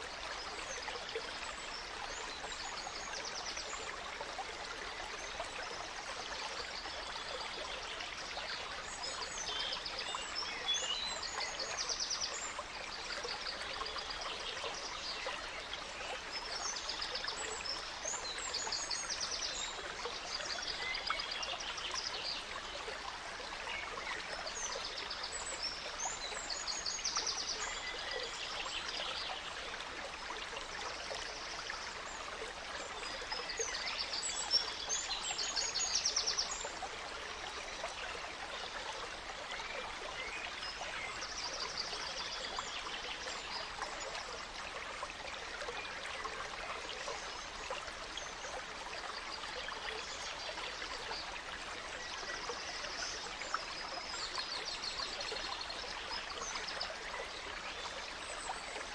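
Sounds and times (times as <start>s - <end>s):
gentle stream running: 0.0s - 58.9s.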